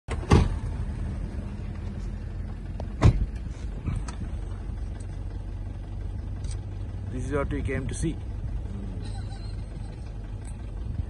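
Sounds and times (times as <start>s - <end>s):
vehicle engine idling: 0.1s - 11.0s.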